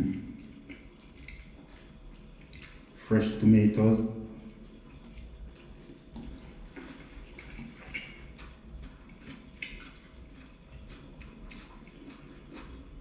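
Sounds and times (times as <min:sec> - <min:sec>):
wet chewing and mouth smacks: 0:00.0 - 0:03.0, 0:04.3 - 0:13.0.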